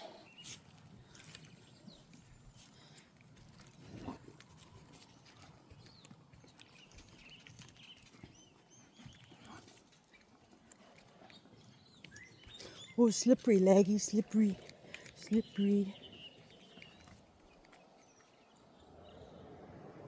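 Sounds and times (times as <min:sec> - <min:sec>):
faint clicks and rustles: 0:00.4 - 0:18.6.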